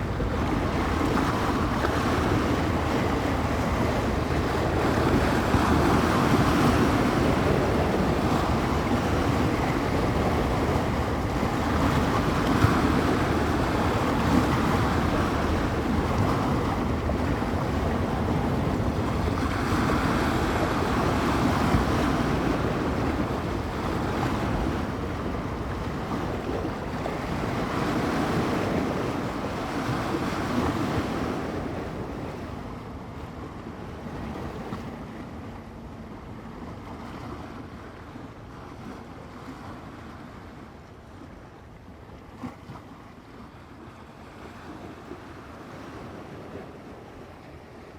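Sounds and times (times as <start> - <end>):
wind buffeting microphone: 0.0 - 40.7
waves washing on shore: 0.0 - 47.9.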